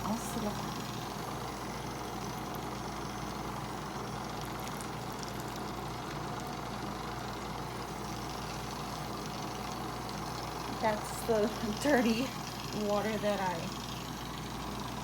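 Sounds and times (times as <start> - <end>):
small electric motor humming: 0.0 - 15.0.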